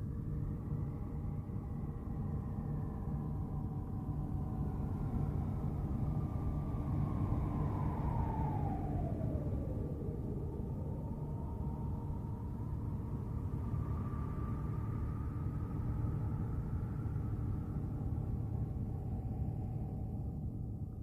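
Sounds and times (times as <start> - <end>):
low noisy drone: 0.0 - 21.0
faint whistling tones: 0.5 - 21.0.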